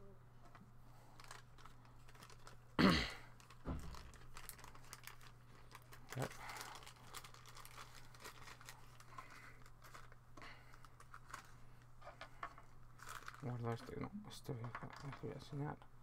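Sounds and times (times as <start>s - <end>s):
plastic bag crinkling: 0.5s - 15.8s.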